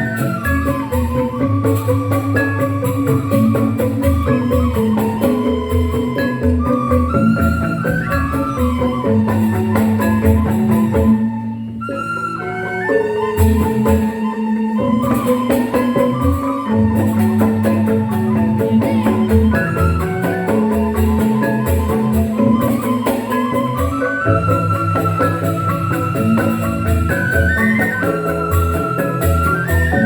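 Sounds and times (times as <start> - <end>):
low sustained bass: 0.0 - 11.9, 13.3 - 30.0
bamboo xylophones playing: 0.0 - 30.0.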